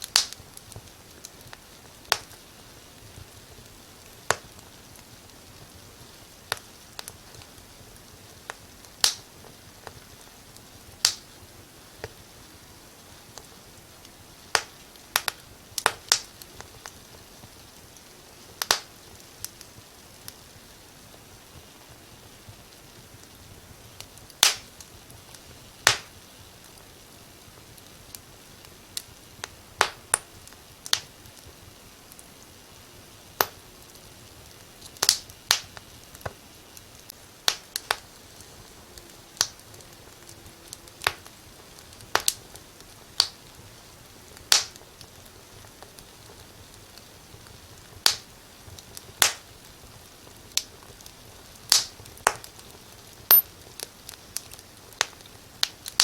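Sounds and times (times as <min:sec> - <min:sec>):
fire snapping and popping: 0:00.0 - 0:56.0
soft steady hiss: 0:00.0 - 0:56.0.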